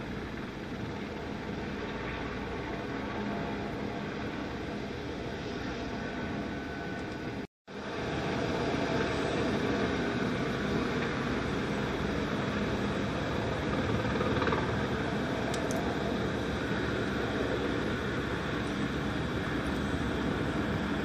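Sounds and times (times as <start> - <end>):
helicopters running: 0.0 - 21.0.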